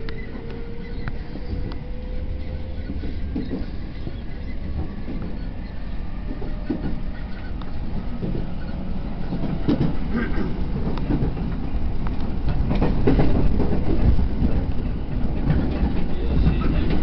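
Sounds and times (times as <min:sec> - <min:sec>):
train rumble inside carriage: 0:00.0 - 0:17.0
wheels clattering over rails: 0:02.4 - 0:17.0.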